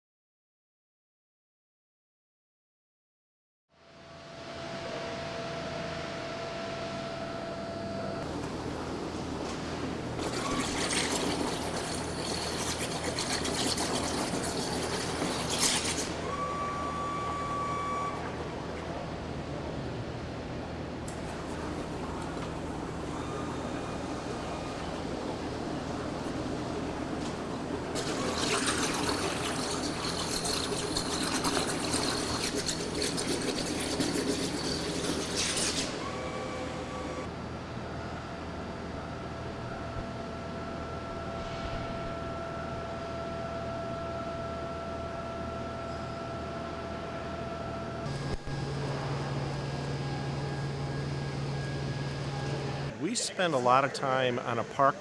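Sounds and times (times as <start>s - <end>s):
steady machine hum: 3.7s - 55.0s.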